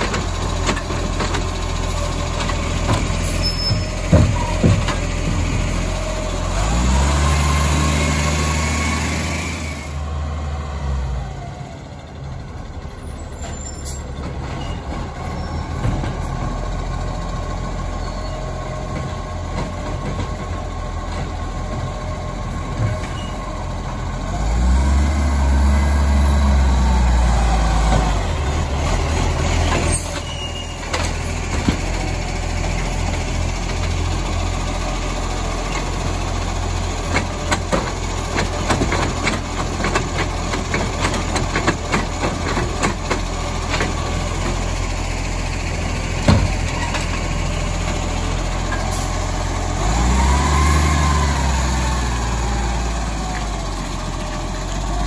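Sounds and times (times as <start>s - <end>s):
truck diesel engine revving: 0.0s - 13.3s, 14.2s - 55.0s.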